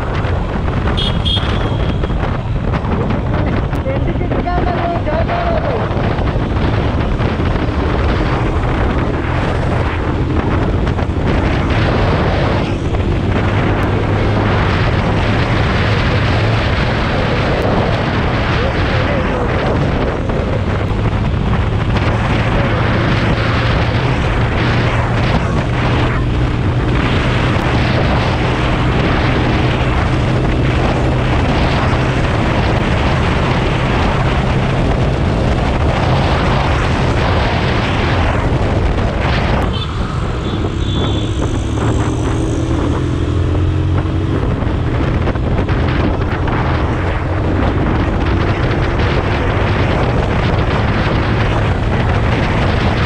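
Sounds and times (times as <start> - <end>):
motorcycle engine: 0.0 - 53.0
wind rush on microphone: 0.0 - 53.0.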